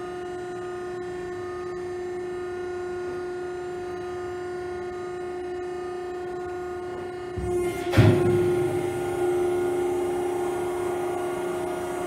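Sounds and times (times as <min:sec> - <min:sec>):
baler machine whine: 0:00.0 - 0:12.0.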